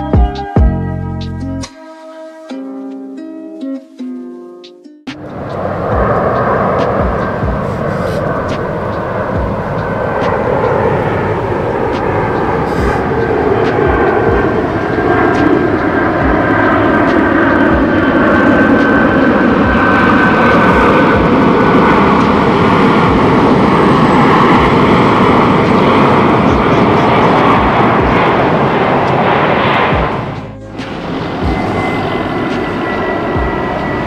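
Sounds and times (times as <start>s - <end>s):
high jet whine falling in pitch: 3.9s - 34.0s
jet roar overhead: 5.1s - 34.0s.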